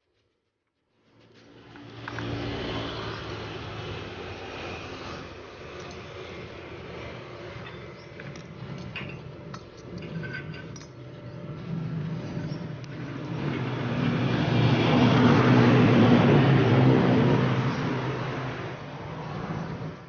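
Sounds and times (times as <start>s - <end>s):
motor vehicle passing by: 1.0s - 20.0s.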